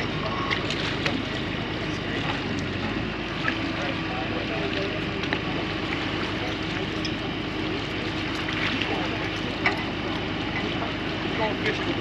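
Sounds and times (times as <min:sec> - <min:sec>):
constant low hum: 0:00.0 - 0:12.0
faint voices: 0:00.0 - 0:12.0.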